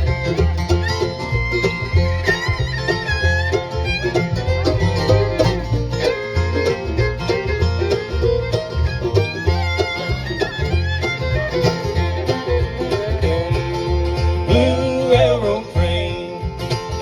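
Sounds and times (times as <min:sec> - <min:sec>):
alternating bass notes: 0:00.0 - 0:17.0
bluegrass band playing: 0:00.0 - 0:17.0.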